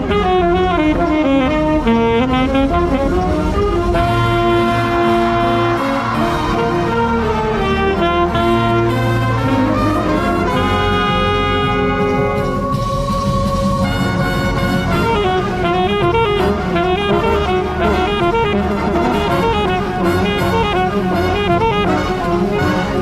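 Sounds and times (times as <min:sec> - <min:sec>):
brass and woodwind band playing: 0:00.0 - 0:23.0.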